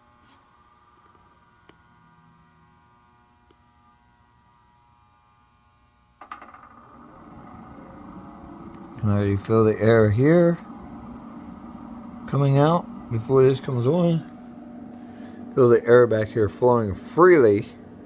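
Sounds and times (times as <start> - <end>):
faint steady hum: 0.0 - 18.0
heater blower fan whirring: 0.0 - 18.0.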